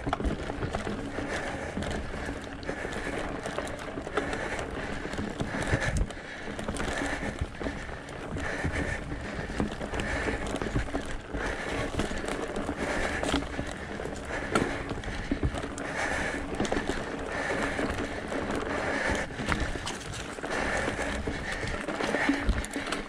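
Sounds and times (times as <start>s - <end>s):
bike knocks and rattles: 0.0s - 23.0s
tyres crunching over gravel: 0.0s - 23.0s.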